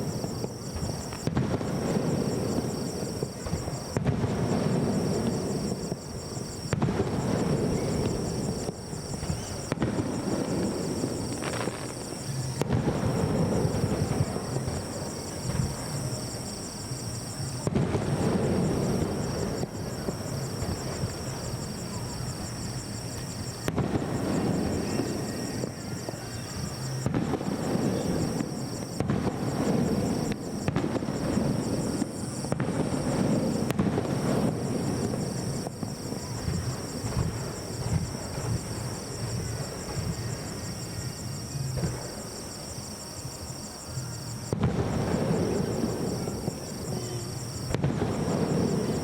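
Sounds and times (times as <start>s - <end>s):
fireworks booming: 0.0s - 49.0s.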